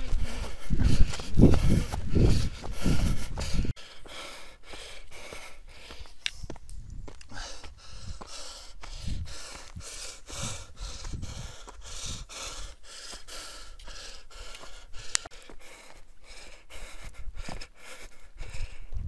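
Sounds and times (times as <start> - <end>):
person panting hard: 0.0 - 6.6, 7.2 - 19.0
running footsteps on dirt: 0.0 - 19.0.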